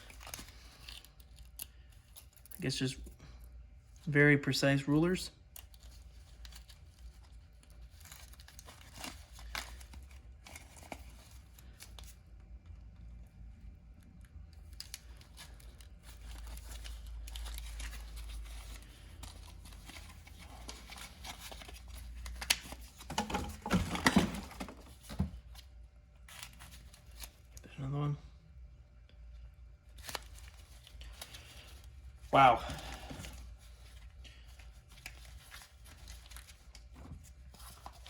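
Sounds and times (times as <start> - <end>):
rustling of boxes and wrappers: 0.0 - 3.1, 3.8 - 12.8, 13.7 - 27.6, 29.8 - 38.0.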